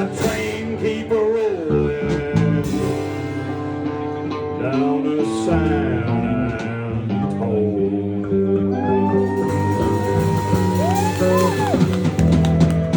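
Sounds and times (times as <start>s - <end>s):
bending lead guitar line: 0.0s - 12.9s
country band guitars: 0.0s - 12.9s.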